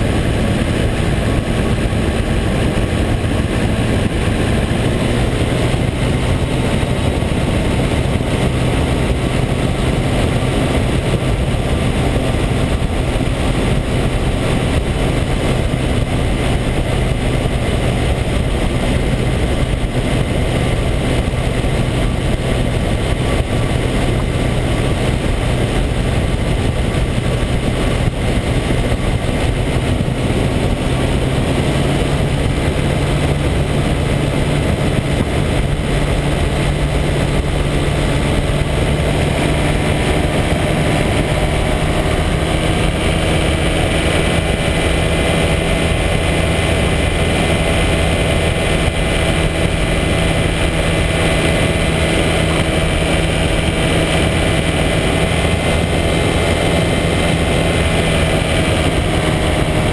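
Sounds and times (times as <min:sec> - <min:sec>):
heavy rushing wind: 0:00.0 - 0:59.9
microlight engine running: 0:00.0 - 0:59.9.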